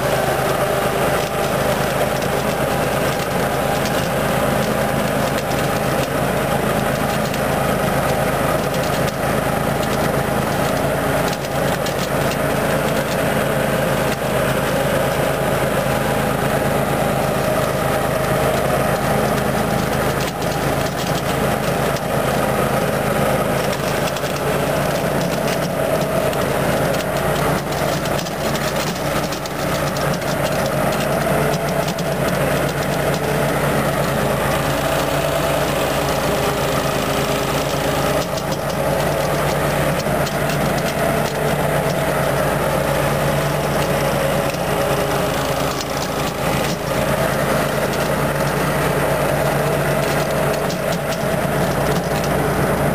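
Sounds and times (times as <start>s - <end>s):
riding mower engine: 0.0s - 52.9s.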